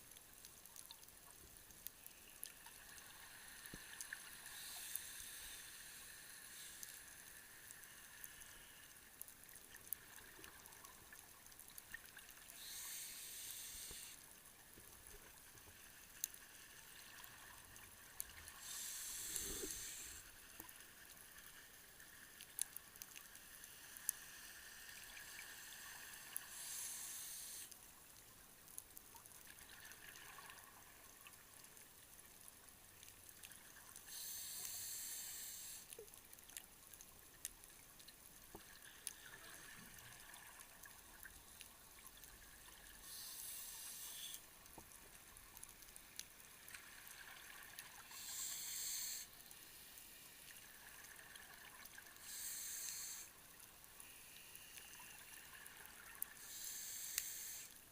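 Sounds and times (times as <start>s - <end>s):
faint clicks: 0.0s - 57.8s.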